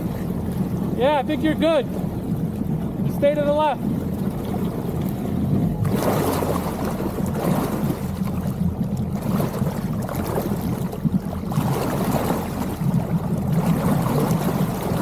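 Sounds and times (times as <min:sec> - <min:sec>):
low engine drone: 0:00.0 - 0:15.0
water rushing around hull: 0:00.0 - 0:15.0.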